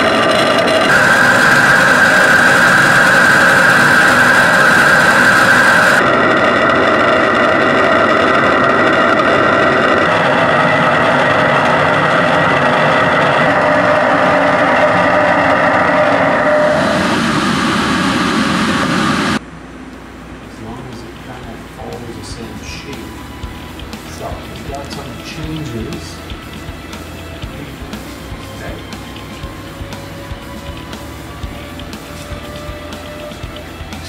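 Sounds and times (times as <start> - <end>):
shaker table mechanical buzz: 0.0 - 19.4, 20.7 - 34.0.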